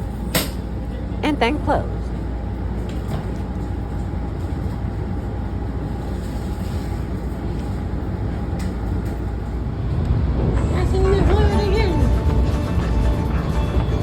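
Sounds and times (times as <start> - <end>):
train car rumble: 0.0 - 14.0.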